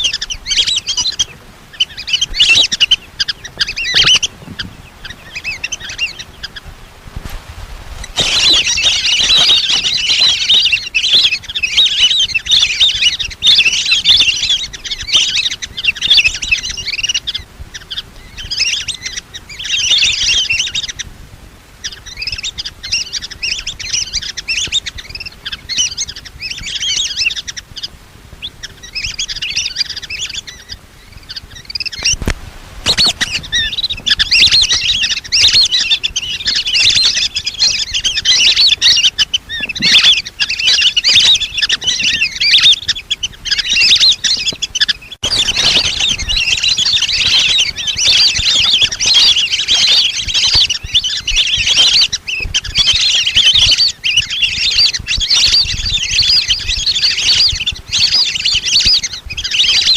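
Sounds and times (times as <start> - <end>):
whistling ducks chirping: 0.0 - 6.7, 8.0 - 21.1, 21.8 - 59.9.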